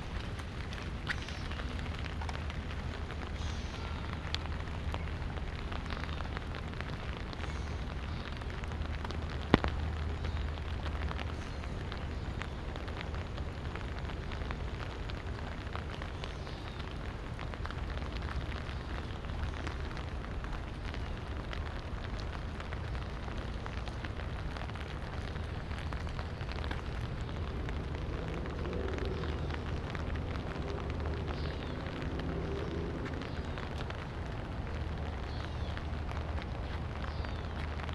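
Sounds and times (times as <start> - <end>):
light rain falling: 0.0 - 37.9.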